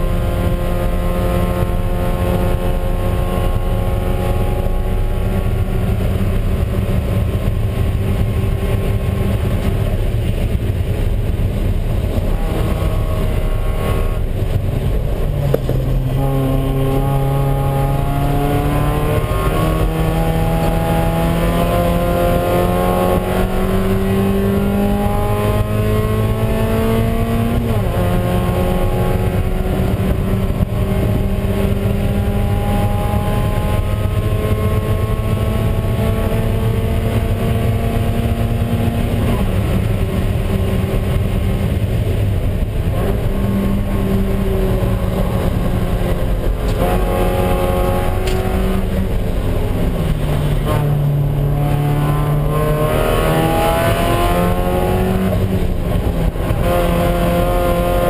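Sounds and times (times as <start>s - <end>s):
race car engine accelerating: 0.0s - 58.0s
wind and road noise: 0.0s - 58.0s.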